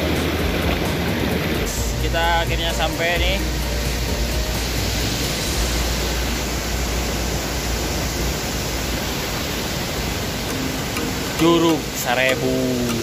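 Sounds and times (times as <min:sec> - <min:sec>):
heavy low rumble: 0:00.0 - 0:12.0
waterfall rushing: 0:00.0 - 0:13.0.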